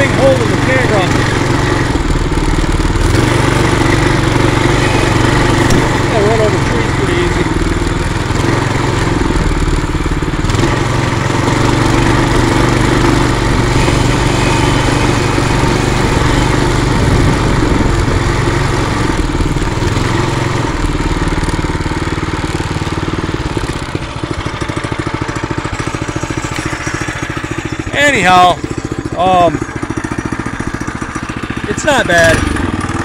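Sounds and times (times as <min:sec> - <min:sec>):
mini bike engine running: 0:00.0 - 0:33.0.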